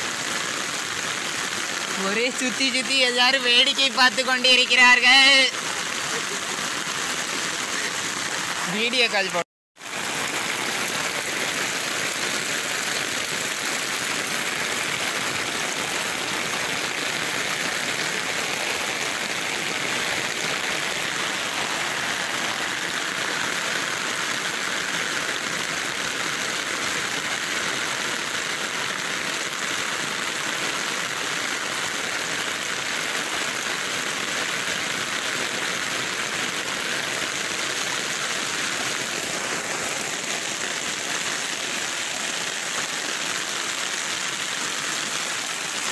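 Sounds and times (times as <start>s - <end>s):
floodwater running over ground: 0.0s - 45.9s
heavy rain pouring: 0.0s - 45.9s.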